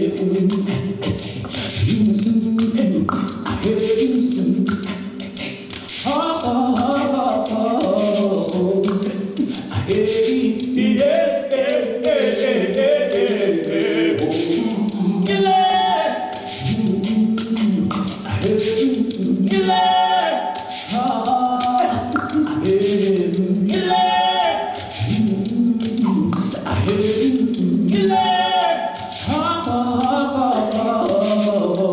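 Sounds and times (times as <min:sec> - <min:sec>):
crisp percussive clicks: 0:00.0 - 0:31.9
group singing in harmony: 0:00.0 - 0:31.9.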